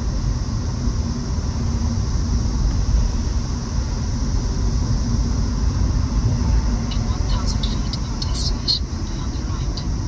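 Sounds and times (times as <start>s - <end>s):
car driving heard from inside: 0.0s - 10.0s.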